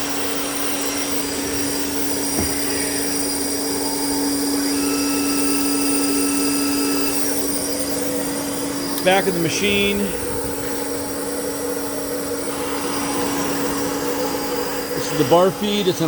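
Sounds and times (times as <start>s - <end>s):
machine-shop equipment humming: 0.0s - 16.0s.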